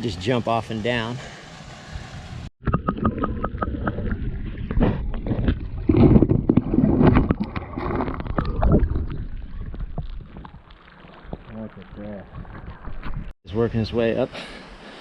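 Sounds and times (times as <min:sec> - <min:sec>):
water splashing and sloshing: 0:01.3 - 0:13.4.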